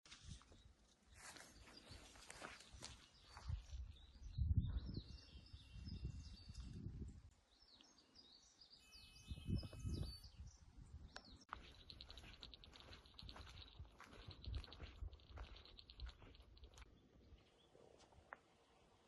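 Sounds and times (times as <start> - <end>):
small birds chirping: 0.3 - 18.2.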